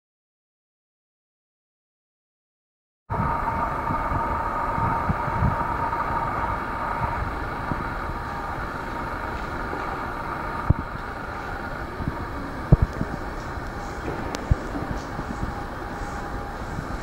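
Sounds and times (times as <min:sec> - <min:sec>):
distant mechanical drone: 0:03.1 - 0:17.0.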